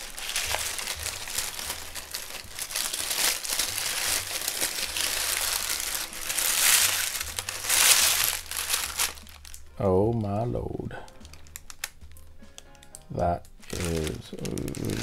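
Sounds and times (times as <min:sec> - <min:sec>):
paper crinkling and rustling: 0:00.0 - 0:10.2, 0:11.1 - 0:15.0.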